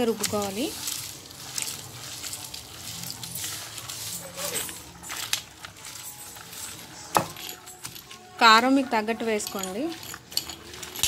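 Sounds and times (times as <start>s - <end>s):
stone pestle grinding wet food: 0.0s - 8.7s, 9.3s - 11.0s.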